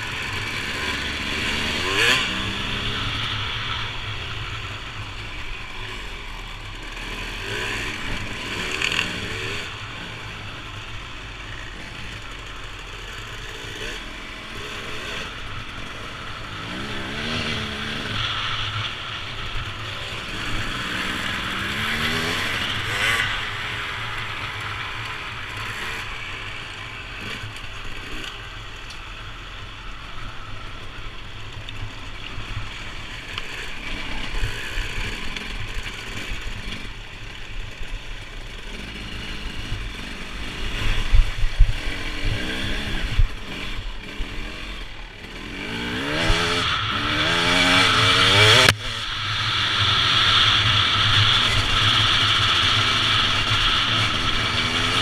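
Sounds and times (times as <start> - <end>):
motorcycle engine revving: 0.0 - 55.0
steady rushing noise: 0.0 - 55.0.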